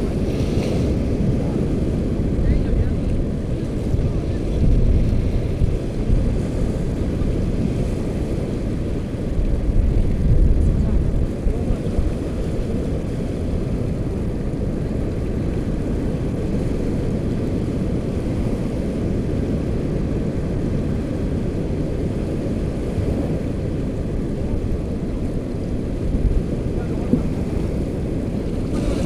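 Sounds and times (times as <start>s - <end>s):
shallow surf washing: 0.0s - 29.0s
wind rumble on microphone: 0.0s - 29.0s.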